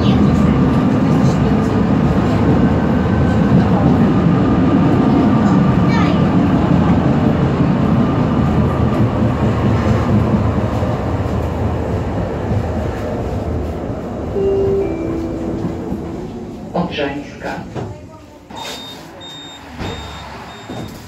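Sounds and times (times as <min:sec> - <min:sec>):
tram wheels rumbling on rails: 0:00.0 - 0:18.5.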